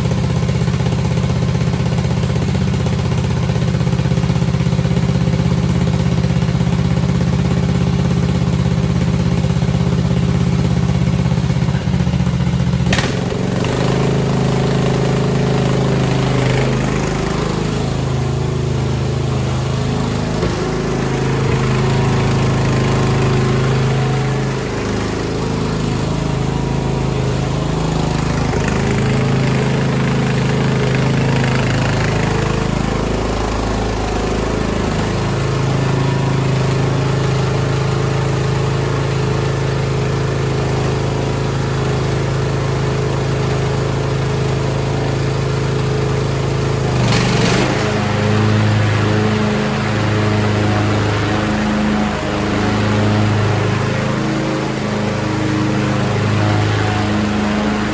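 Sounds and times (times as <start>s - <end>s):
lawn tractor engine running: 0.0s - 57.9s.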